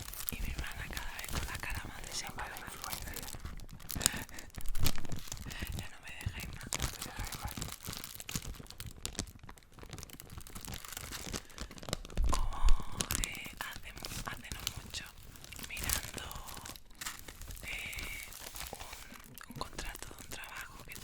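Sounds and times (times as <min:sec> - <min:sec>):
paper tearing and crinkling: 0:00.0 - 0:21.0.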